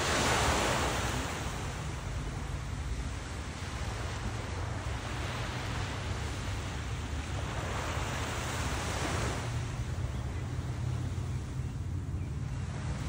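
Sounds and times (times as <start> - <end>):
small ocean waves breaking: 0.0 - 13.0
wind rumble on microphone: 0.0 - 13.0.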